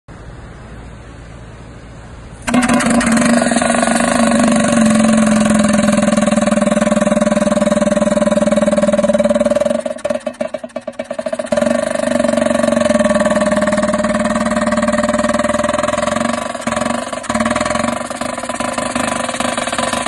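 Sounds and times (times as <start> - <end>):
vibratory pile hammer buzzing: 2.4 - 20.0.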